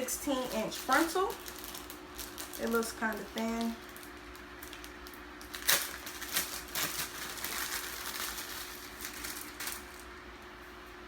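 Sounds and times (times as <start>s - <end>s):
packaging crinkling: 0.0s - 10.3s.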